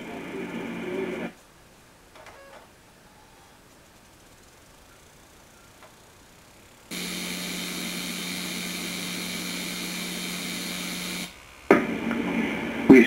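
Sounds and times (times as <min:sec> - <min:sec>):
steam venting with rushing hiss: 0:00.0 - 0:02.0, 0:03.4 - 0:13.0.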